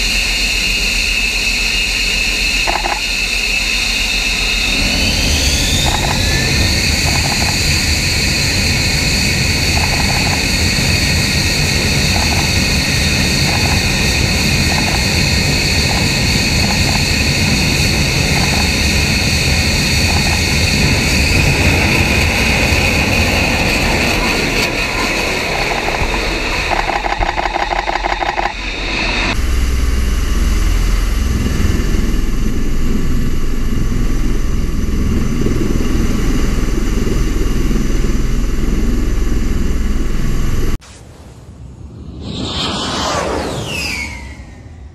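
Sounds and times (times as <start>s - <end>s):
jet engine roar and whine: 0.0s - 44.9s.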